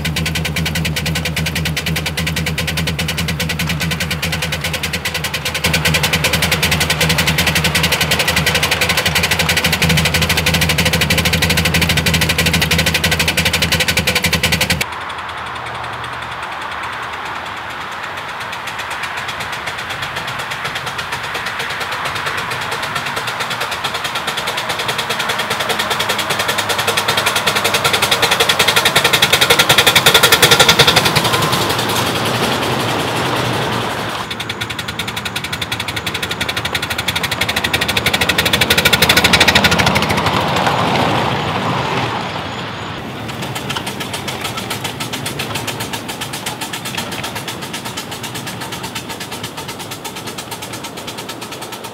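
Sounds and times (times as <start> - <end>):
steam train clattering past: 0.0 - 51.9.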